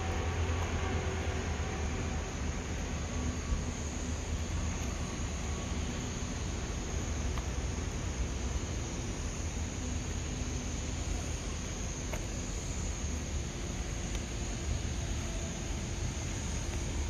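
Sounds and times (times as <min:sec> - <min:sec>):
ship machinery drone: 0:00.0 - 0:17.0.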